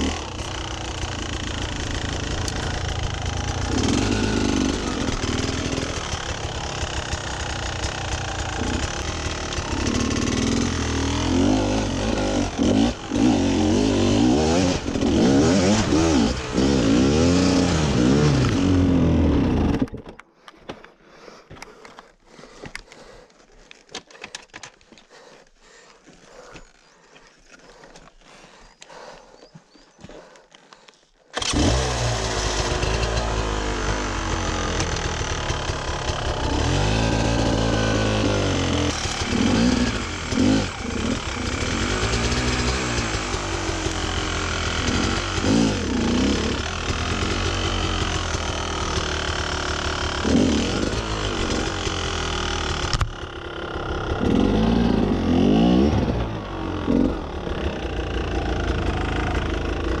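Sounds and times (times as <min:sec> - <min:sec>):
dirt bike engine revving: 0:00.0 - 0:19.9, 0:31.4 - 1:00.0.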